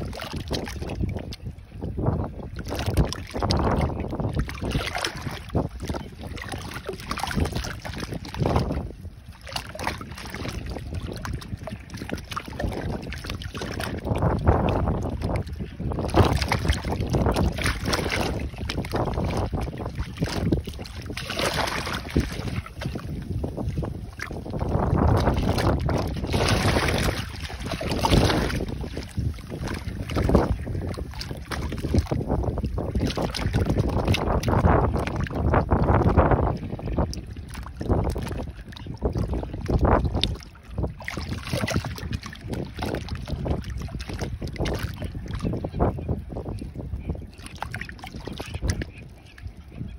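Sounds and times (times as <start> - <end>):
seawater sloshing in a crack: 0.0 - 49.9
wind buffeting microphone: 0.0 - 49.9.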